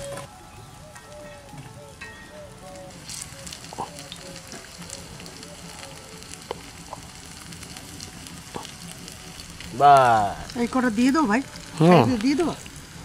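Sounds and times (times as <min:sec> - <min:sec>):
food sizzling in oil: 0:02.3 - 0:13.0.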